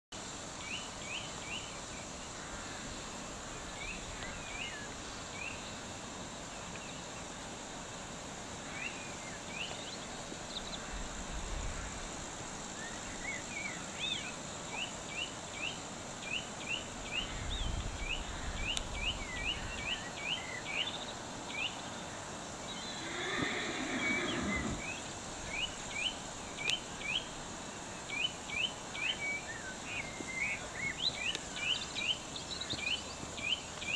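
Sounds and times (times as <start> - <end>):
outdoor hiss: 0.1 - 33.9.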